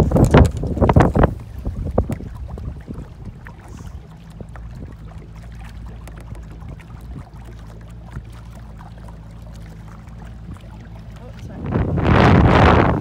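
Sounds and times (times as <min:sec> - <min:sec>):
boat motor hum: 0:00.0 - 0:13.0
water splashing against hull: 0:00.0 - 0:13.0.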